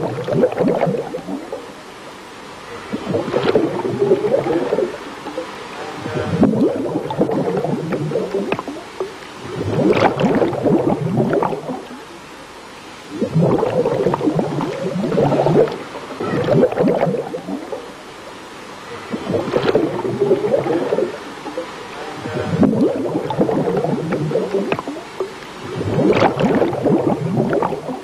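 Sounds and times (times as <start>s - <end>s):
diver exhaling bubbles: 0.0s - 1.7s, 2.7s - 12.0s, 13.0s - 18.0s, 19.0s - 28.0s.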